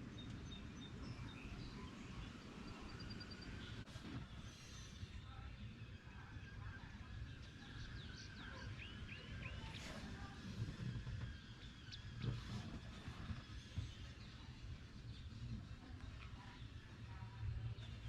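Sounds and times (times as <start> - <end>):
small birds chirping: 0.0 - 5.4, 7.2 - 18.0.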